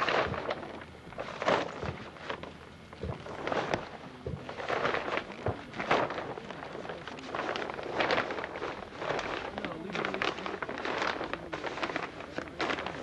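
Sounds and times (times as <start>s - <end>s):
canvas rustling and flapping: 0.0s - 13.0s.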